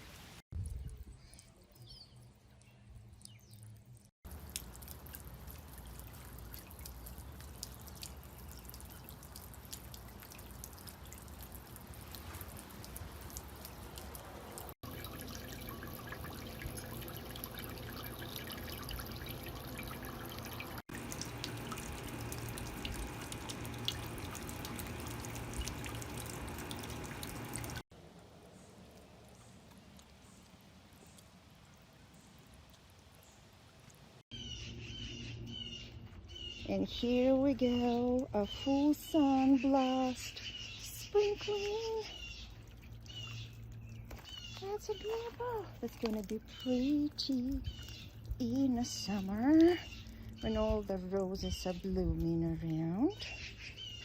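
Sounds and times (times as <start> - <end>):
fountain water splashing and dripping: 0.0 - 34.2, 36.9 - 54.0.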